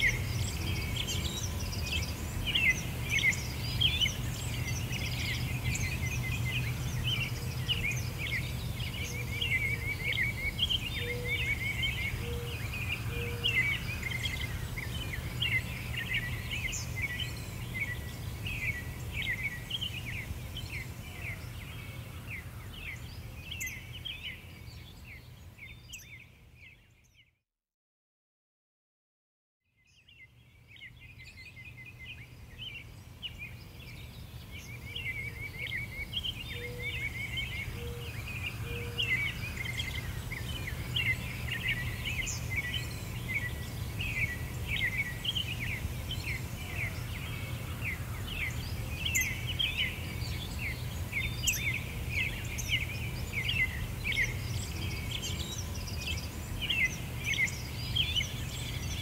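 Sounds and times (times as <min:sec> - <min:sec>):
small birds chirping: 0:00.0 - 0:27.3, 0:29.8 - 0:59.0.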